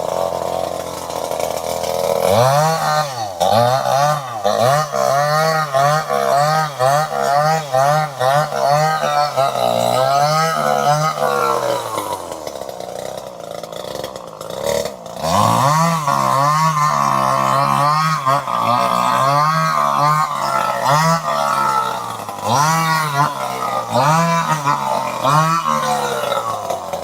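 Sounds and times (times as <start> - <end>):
chainsaw engine revving: 0.0 - 27.0.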